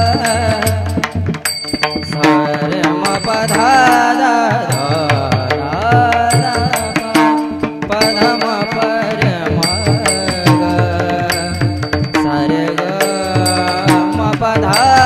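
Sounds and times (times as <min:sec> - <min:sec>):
drum strokes: 0:00.0 - 0:15.0
hand cymbals ringing: 0:00.0 - 0:15.0
man singing devotional song: 0:00.0 - 0:15.0.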